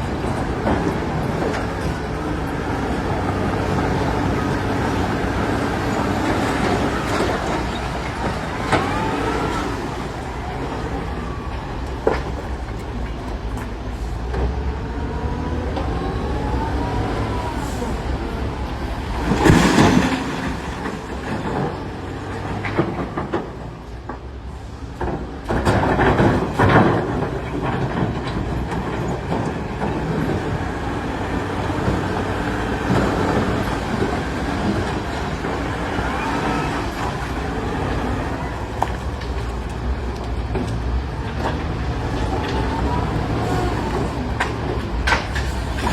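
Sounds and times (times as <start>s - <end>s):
wheel loader diesel engine running: 0.0s - 45.9s.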